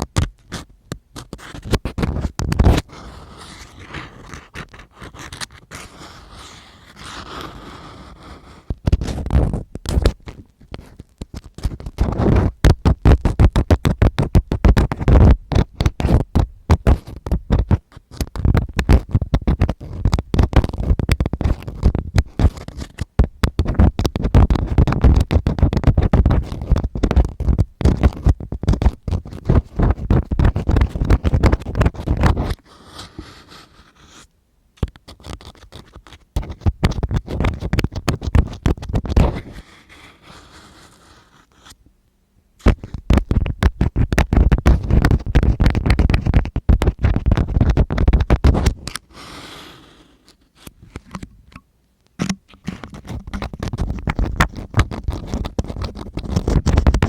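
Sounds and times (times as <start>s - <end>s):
tool scratching against microphone: 0.0s - 41.8s, 42.6s - 51.4s, 52.2s - 57.0s.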